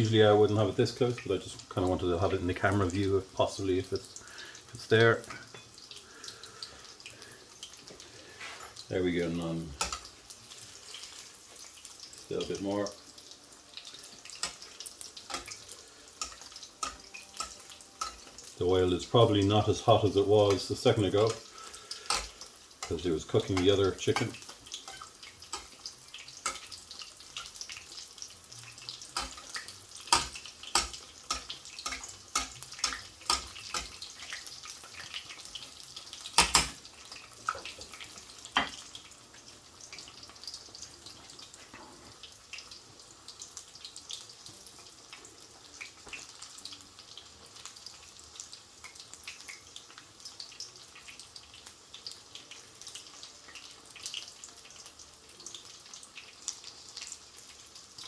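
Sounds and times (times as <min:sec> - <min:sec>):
chicken sizzling in oil: 0:00.0 - 0:58.0.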